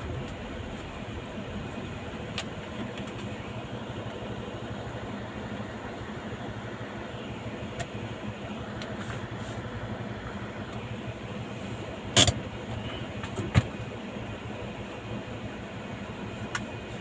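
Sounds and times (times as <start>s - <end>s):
car engine rumble inside cabin: 0.0s - 17.0s.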